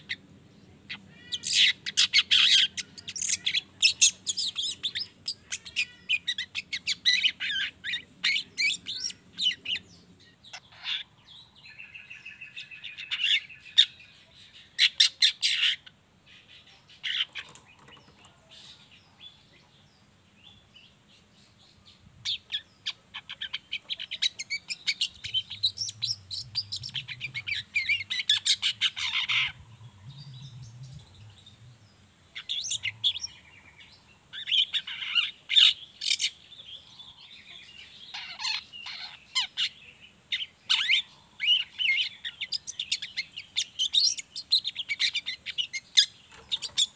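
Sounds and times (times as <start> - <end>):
bird chattering: 0.9 - 18.9, 22.2 - 46.9.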